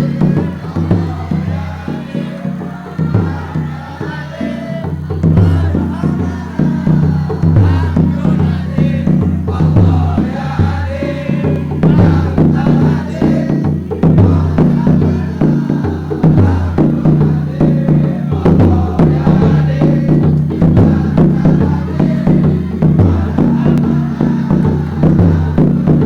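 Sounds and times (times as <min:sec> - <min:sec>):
male choir singing in unison: 0:00.0 - 0:26.0.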